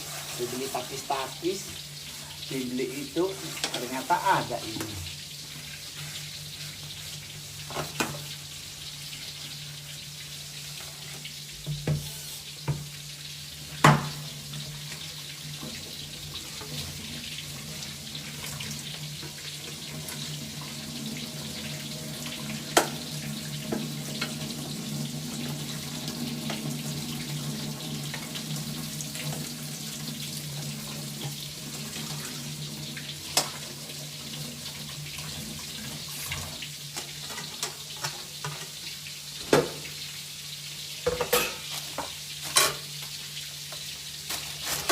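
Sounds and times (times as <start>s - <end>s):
hiss of kitchen work: 0.0s - 44.9s.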